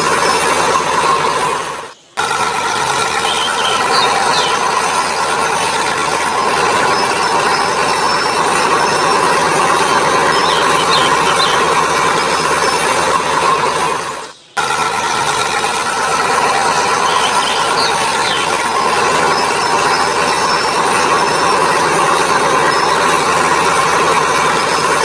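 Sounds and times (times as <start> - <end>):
toy motor whirring: 0.0 - 25.0.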